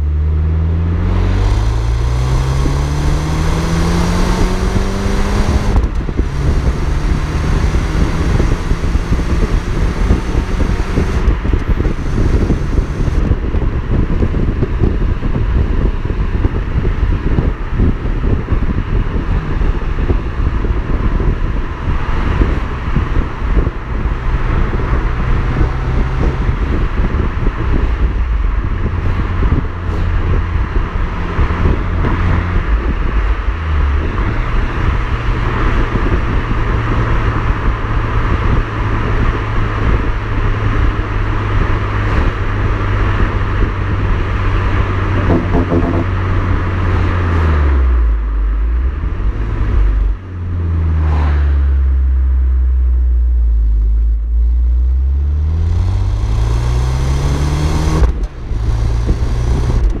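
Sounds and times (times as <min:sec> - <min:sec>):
car exhaust while driving: 0:00.0 - 1:00.0.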